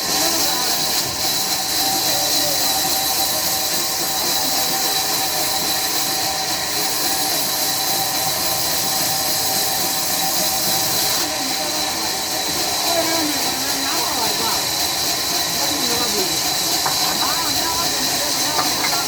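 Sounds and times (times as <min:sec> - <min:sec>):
high machine whine: 0:00.0 - 0:19.0
sawmill machinery hiss: 0:00.0 - 0:19.0.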